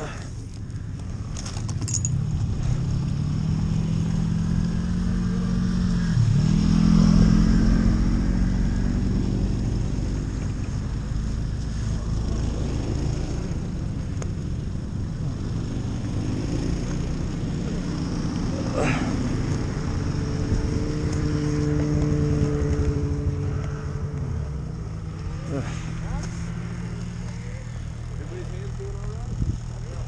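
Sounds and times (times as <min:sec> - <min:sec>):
snowmobile engines running: 0:00.0 - 0:30.0.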